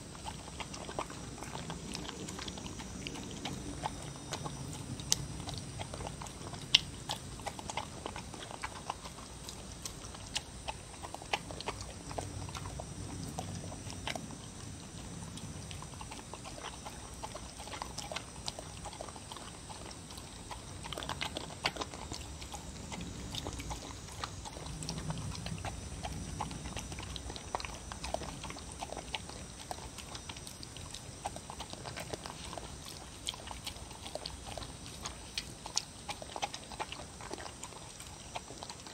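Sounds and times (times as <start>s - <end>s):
dog lapping and chewing: 0.0s - 38.9s.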